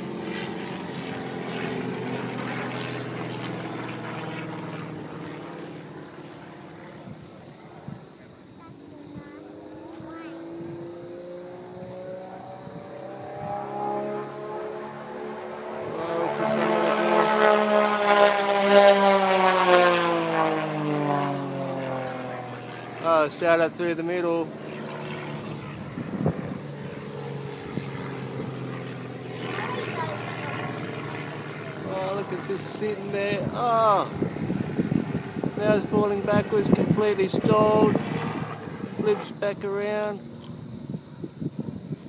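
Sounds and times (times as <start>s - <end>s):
propeller plane engine overhead: 0.0s - 42.0s.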